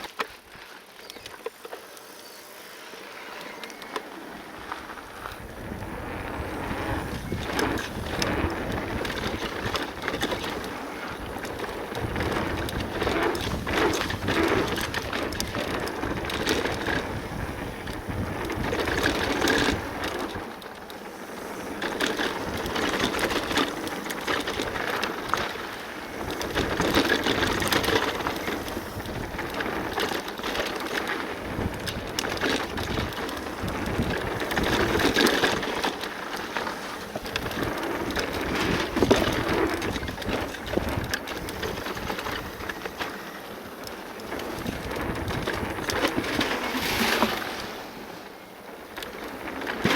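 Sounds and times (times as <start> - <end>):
bike tyres crunching over dirt: 0.0 - 49.9
bike knocks and rattles: 4.6 - 47.4, 48.9 - 49.9.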